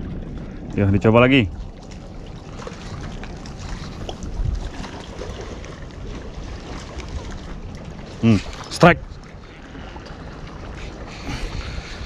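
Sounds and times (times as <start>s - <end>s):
sea water lapping: 0.0s - 12.0s
wind on microphone: 0.0s - 12.0s.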